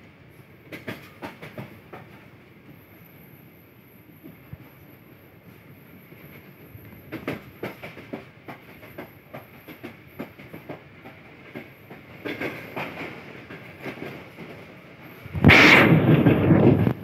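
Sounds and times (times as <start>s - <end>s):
train wheels clattering on track: 0.0s - 3.1s, 5.5s - 17.0s.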